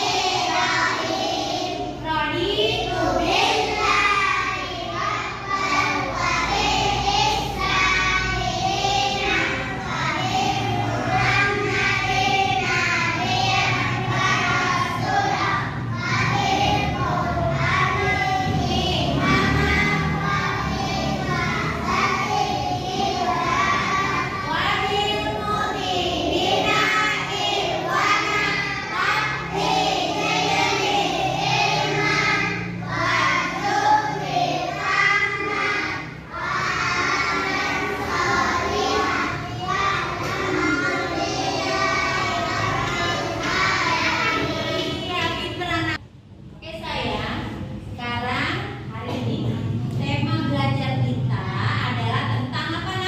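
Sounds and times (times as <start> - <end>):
children singing: 0.0 - 45.4.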